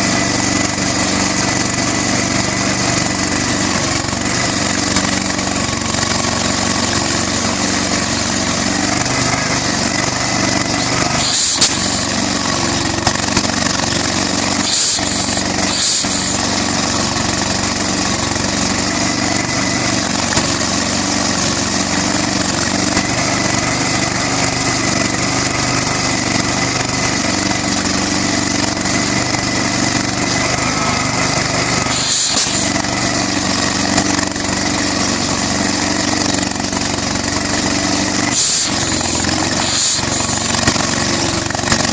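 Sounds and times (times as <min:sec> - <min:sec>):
flywheel engine running: 0:00.0 - 0:41.9.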